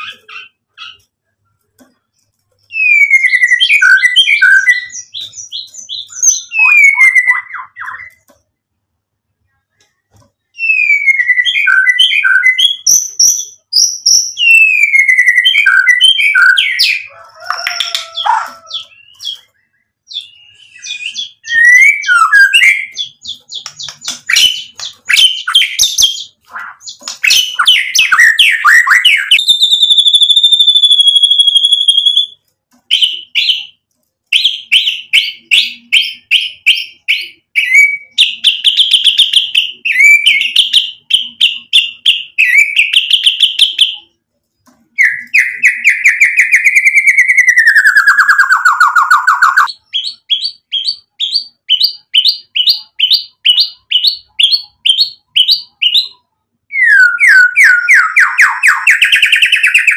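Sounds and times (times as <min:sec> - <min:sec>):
songbird singing: 0:02.6 - 0:08.5, 0:09.8 - 0:44.2, 0:44.8 - 0:59.9.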